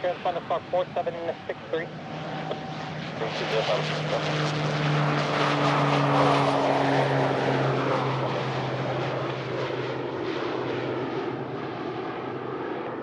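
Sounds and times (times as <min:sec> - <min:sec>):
aircraft engine hum: 0:00.0 - 0:13.0.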